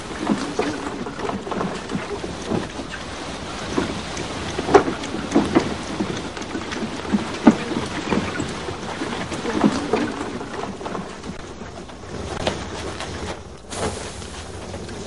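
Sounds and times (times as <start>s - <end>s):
steady noisy background: 0.0s - 15.0s.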